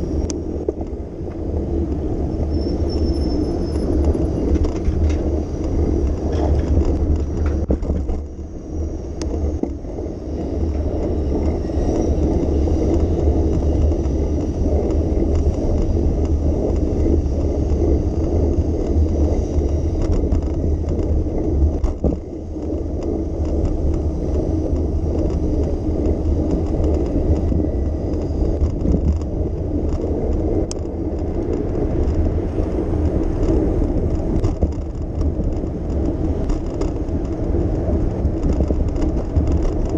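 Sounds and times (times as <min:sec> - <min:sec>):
bicycle tyre noise: 0:00.0 - 0:39.9
wind noise: 0:00.0 - 0:39.9
small rattles and clicks: 0:00.2 - 0:08.4, 0:09.1 - 0:39.9.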